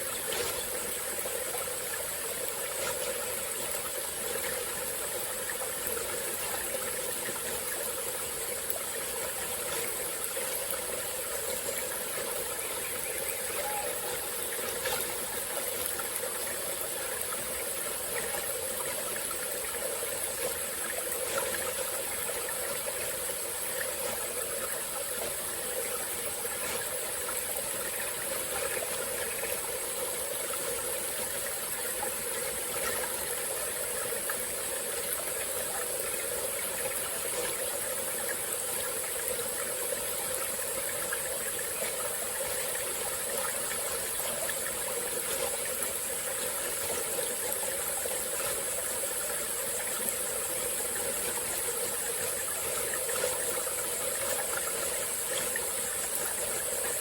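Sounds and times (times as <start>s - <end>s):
small stream flowing: 0.0s - 57.0s.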